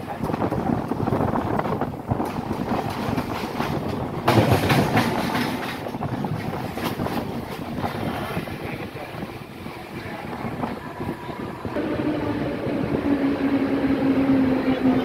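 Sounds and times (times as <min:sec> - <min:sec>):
train wheels clicking over rails: 0:00.0 - 0:15.0
wind rushing on microphone: 0:00.0 - 0:15.0.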